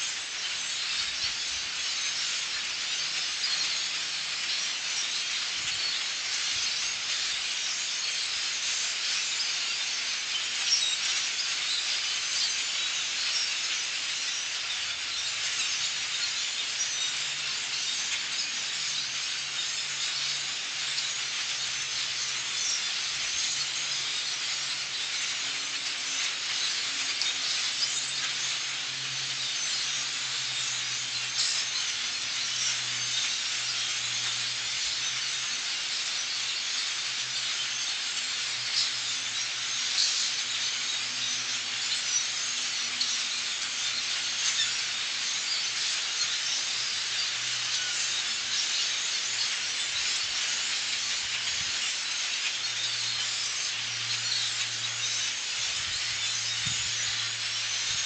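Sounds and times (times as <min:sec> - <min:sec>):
flock of birds chattering: 0:00.0 - 0:58.0.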